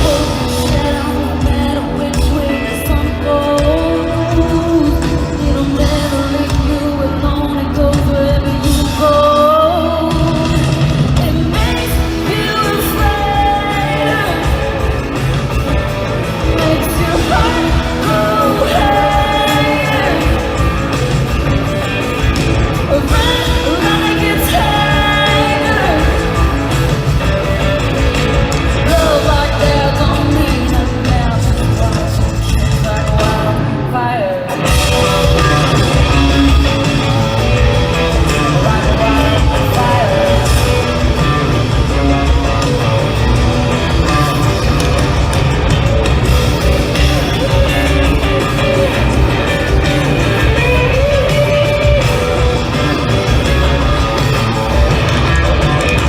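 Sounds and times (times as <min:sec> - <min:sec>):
live pop-country band: 0:00.0 - 0:56.0
woman singing lead: 0:00.0 - 0:56.0.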